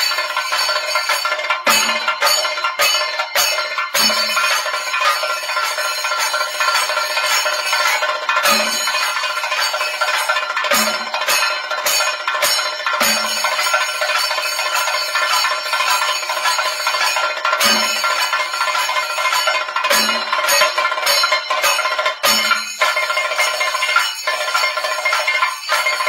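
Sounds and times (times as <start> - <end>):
brass hand cymbals ringing: 0.0 - 26.0.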